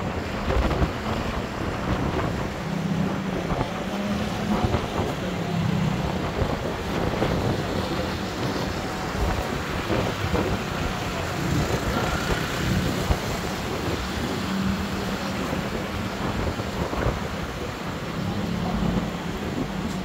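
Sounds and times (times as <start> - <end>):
bus engine humming: 0.0 - 20.0
city traffic: 0.0 - 20.0
wind on microphone: 0.0 - 20.0.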